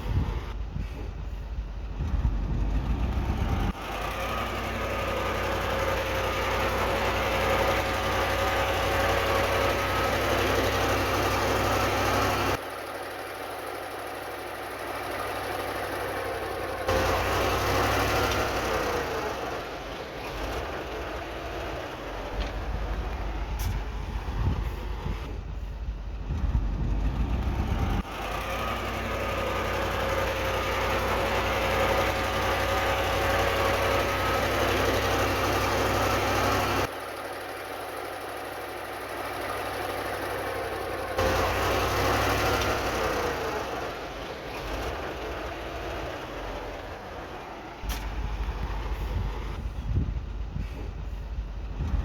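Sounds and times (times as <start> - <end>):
heavy diesel machinery rumbling: 0.0 - 52.0.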